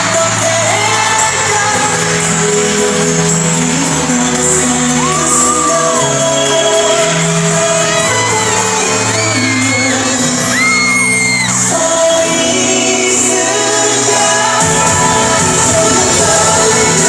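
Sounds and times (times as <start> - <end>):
crowd screaming and cheering: 0.0 - 17.0
live pop song with band: 0.0 - 17.0.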